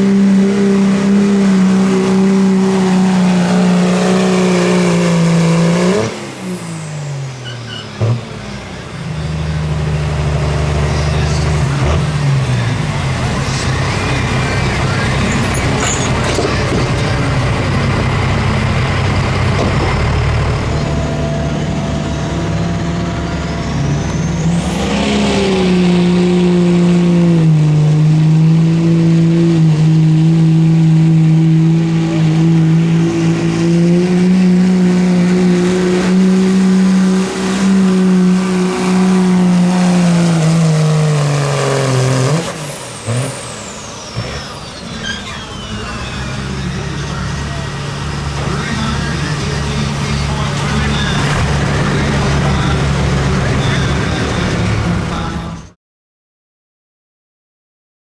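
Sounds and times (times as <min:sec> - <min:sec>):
pulling vehicle engine under load: 0:00.0 - 0:55.8.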